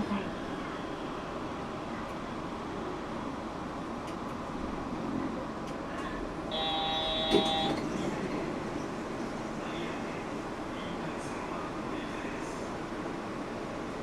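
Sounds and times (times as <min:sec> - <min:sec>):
train interior hum: 0:00.0 - 0:14.0.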